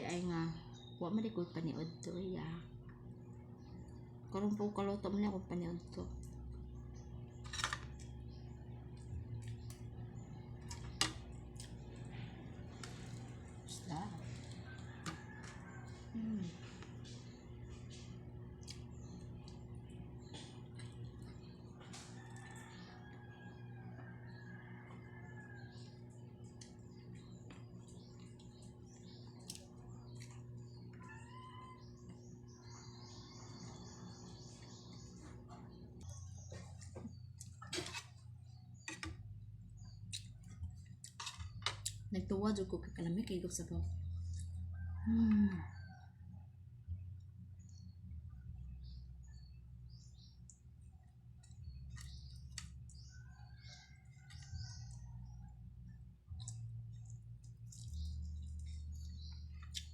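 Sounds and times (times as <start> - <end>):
birds chirping: 0.0 - 59.9
steady low hum: 0.0 - 59.9.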